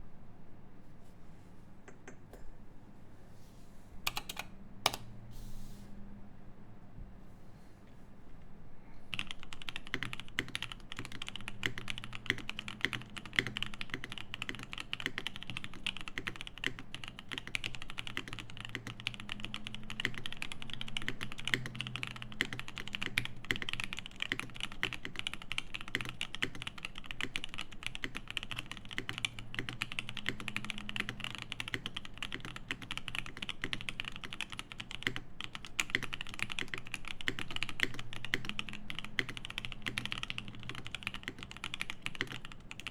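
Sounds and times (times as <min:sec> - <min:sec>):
fast typing on mechanical keyboard: 0:04.1 - 0:05.1, 0:09.1 - 0:42.9.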